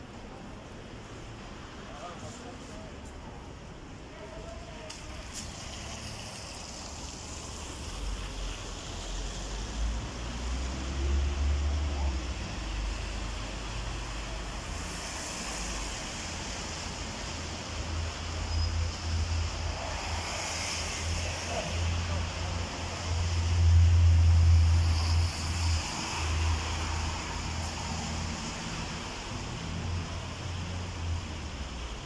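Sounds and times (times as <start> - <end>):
street noise hiss: 0.0 - 32.0.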